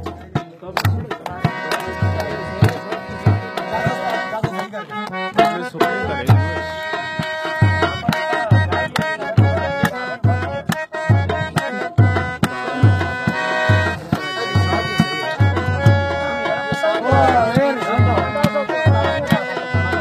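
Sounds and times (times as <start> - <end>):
hand drum beat: 0.0 - 20.0
harmonium melody: 0.0 - 20.0.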